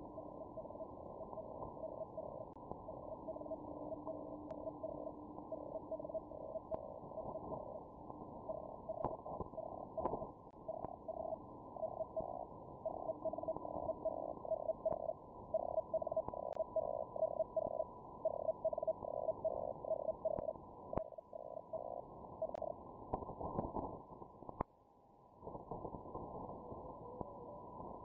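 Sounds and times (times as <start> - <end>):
static clicks: 0.0 - 24.7.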